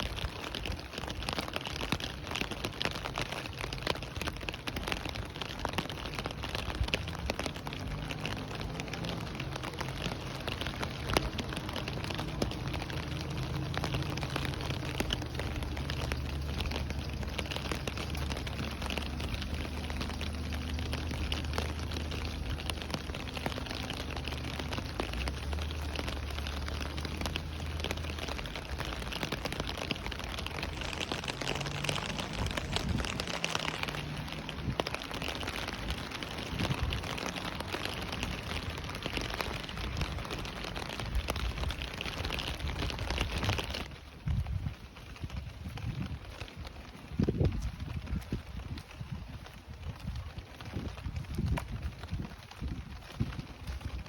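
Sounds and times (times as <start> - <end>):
steady rain falling: 0.0 - 54.0
low rumble: 6.4 - 54.0.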